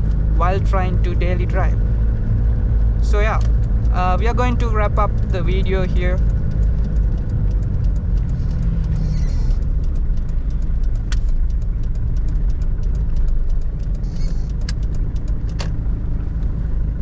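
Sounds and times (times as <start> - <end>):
diesel engine cabin drone: 0.0 - 17.0
sharp ticks: 2.8 - 16.5.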